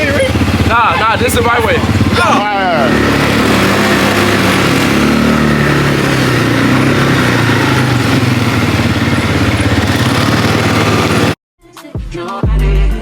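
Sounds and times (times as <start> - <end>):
road and wind noise: 0.0 - 11.4
vehicle engine running: 0.0 - 11.4.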